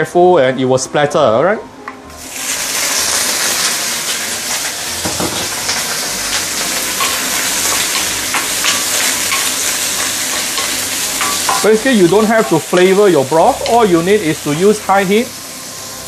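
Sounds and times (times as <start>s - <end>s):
prawns sizzling in hot oil: 2.2s - 16.0s.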